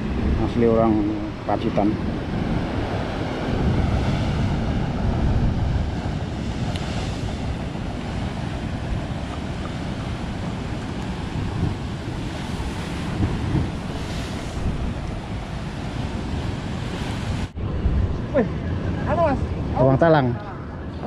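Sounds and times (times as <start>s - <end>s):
ocean surf breaking on rocks: 0.0s - 21.0s
wind buffeting microphone: 0.0s - 21.0s.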